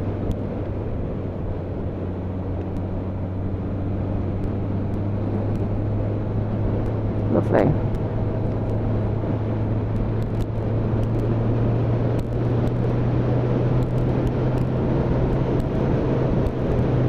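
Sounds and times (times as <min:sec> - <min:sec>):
motorcycle engine cruising: 0:00.0 - 0:17.0
wind and road rush: 0:00.0 - 0:17.0.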